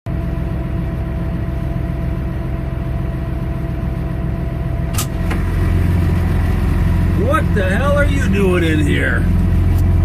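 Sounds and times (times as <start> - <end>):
tractor diesel engine running: 0.1 - 10.0.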